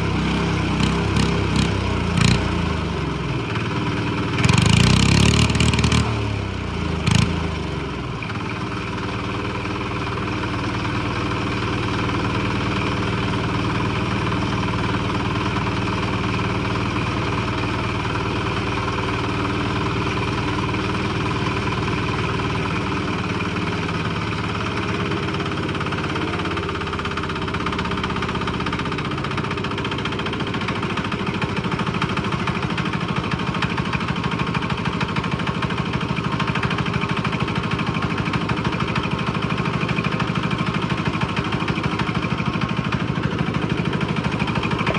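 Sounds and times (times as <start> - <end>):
diesel tractor engine running: 0.0 - 44.9.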